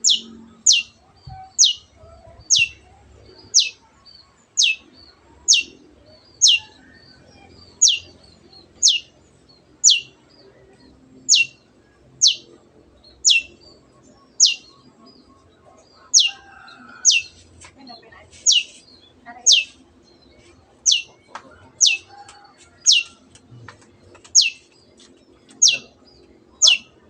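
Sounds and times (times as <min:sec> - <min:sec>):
faint bird chatter: 0:00.0 - 0:27.0.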